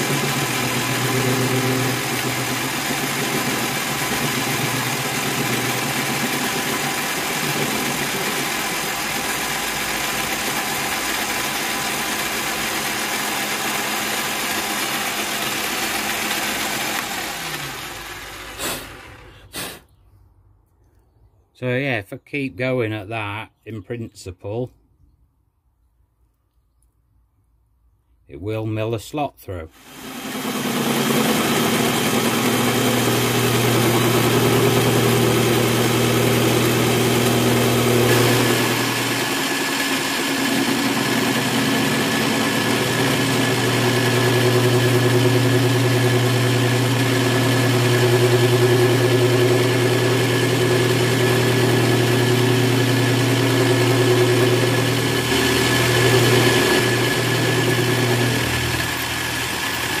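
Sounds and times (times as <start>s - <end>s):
drill press motor milling metal: 0.0s - 19.3s, 29.8s - 60.0s.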